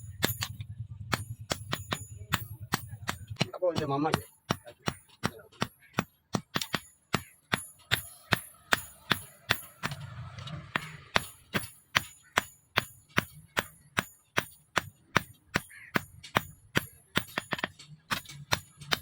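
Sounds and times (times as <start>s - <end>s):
hammer ringing on steel: 0.0s - 19.0s.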